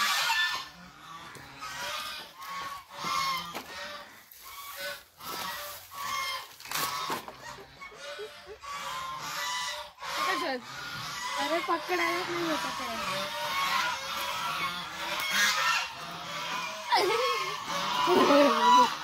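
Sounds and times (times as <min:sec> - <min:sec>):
ducks honking: 0:00.0 - 0:19.0.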